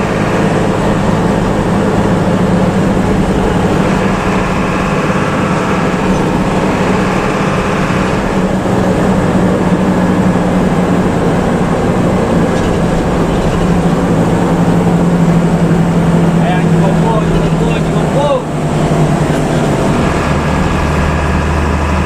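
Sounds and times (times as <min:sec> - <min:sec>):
bus diesel engine droning: 0:00.0 - 0:22.0
road noise: 0:00.0 - 0:22.0.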